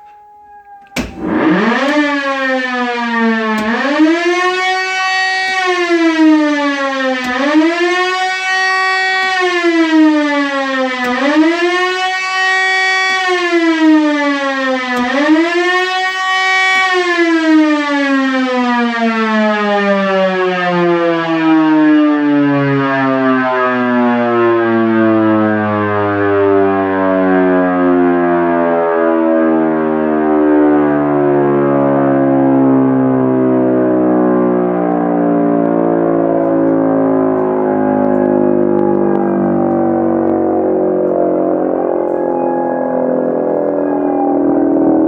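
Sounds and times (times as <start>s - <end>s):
siren wailing: 0.0s - 45.0s.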